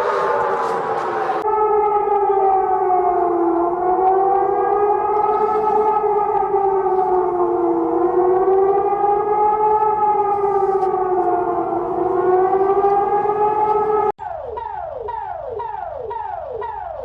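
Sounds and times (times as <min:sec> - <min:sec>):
alarm tone sweeping downward: 0:00.0 - 0:17.0
siren wailing: 0:00.0 - 0:17.0.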